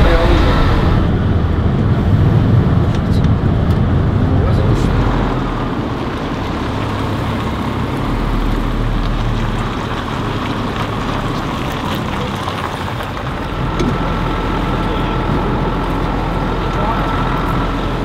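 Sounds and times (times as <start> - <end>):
bus diesel engine rumbling: 0.0 - 18.0.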